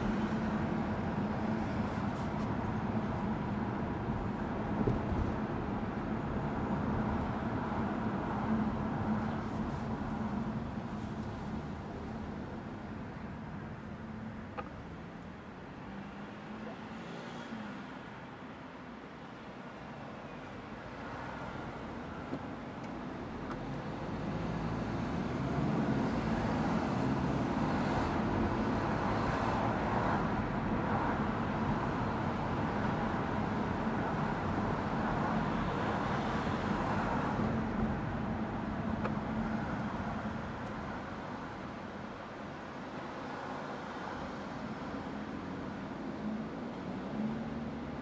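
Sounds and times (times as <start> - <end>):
car road and tyre noise: 0.0 - 48.0.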